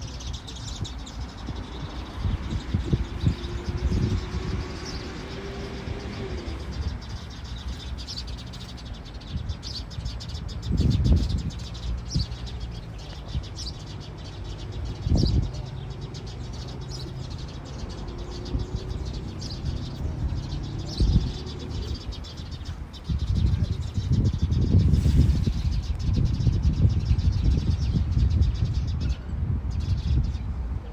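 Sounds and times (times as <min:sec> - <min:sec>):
bird chirping: 0:00.0 - 0:30.5
wind rumble on microphone: 0:00.0 - 0:30.9.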